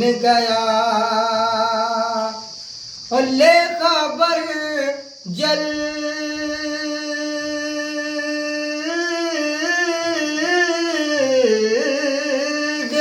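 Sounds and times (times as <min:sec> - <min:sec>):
man singing: 0:00.0 - 0:13.0
steady high hiss: 0:00.0 - 0:13.0.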